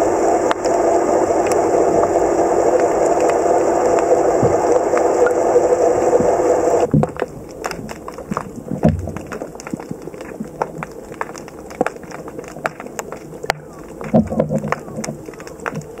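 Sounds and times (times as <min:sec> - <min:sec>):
underwater boat engine drone: 0:00.0 - 0:16.0
underwater clicks and crackles: 0:00.3 - 0:16.0.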